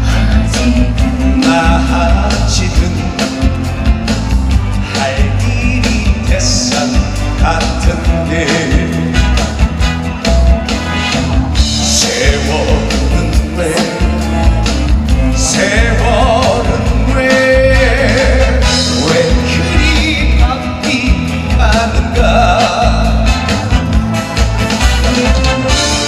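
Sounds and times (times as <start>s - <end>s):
live band playing through speakers: 0.0s - 26.0s.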